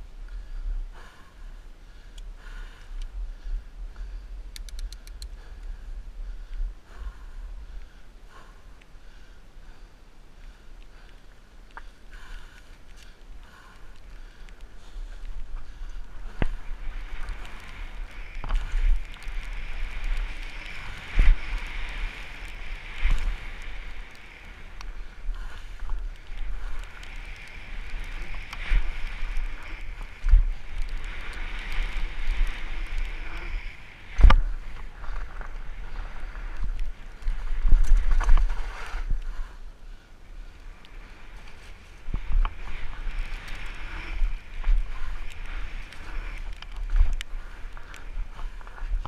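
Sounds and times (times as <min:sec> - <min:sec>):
wind and tyre noise: 0:00.0 - 0:49.0.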